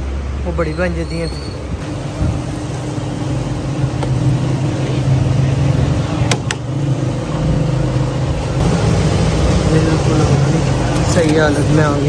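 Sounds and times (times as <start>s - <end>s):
vehicle engine running: 1.7s - 12.0s.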